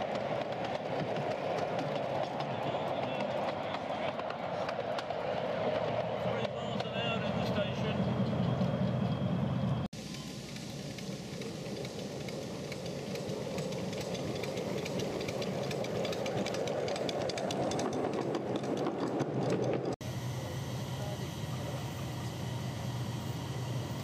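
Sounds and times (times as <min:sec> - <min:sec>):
wheels clicking and rattling: 0:00.0 - 0:09.2, 0:09.9 - 0:20.0
miniature train rumbling: 0:00.0 - 0:20.1.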